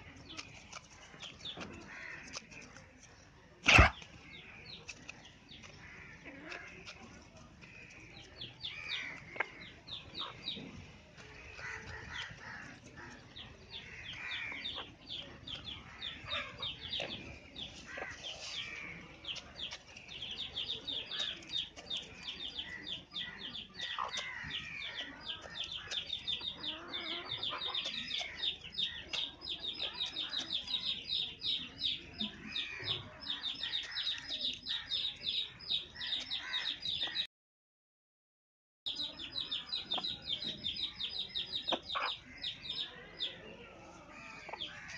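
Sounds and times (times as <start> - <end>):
rooster pecking grain: 0.0 - 36.8
chickens clucking: 0.0 - 37.3, 38.9 - 44.9.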